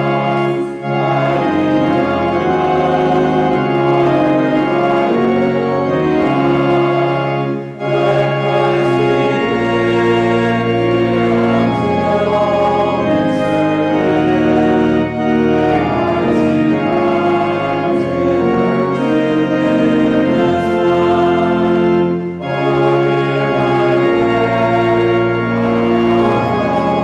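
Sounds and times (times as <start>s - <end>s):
organ playing slow chords: 0.0s - 27.0s.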